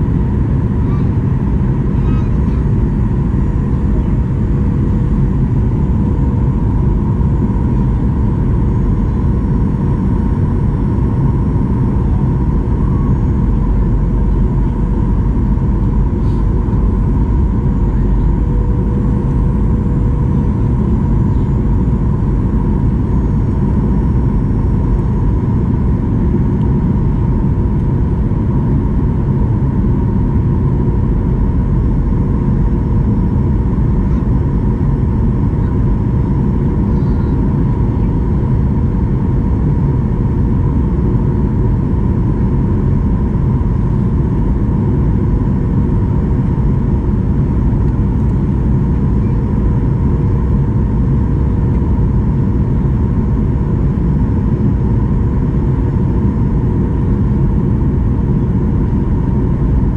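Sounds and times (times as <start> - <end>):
jet engine whine: 0.0 - 59.9
low rumble: 0.0 - 59.9.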